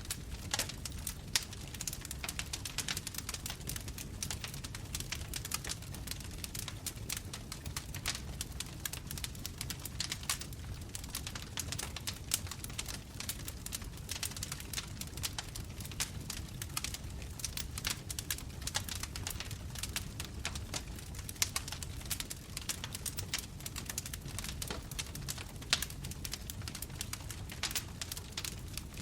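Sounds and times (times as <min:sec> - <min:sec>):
bonfire crackling and popping: 0:00.0 - 0:29.0
low rumble of flames: 0:00.0 - 0:29.0.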